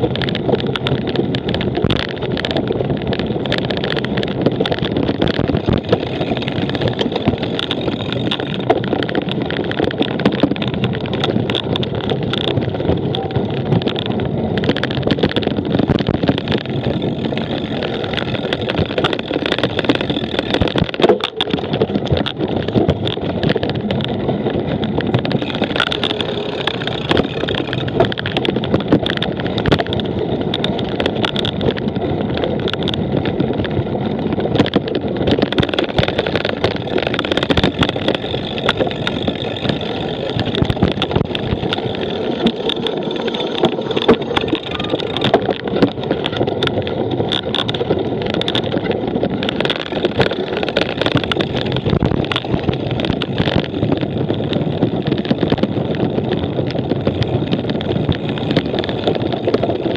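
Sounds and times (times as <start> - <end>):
bike rattling and knocking: 0.0 - 59.9
wind on microphone: 0.0 - 59.9.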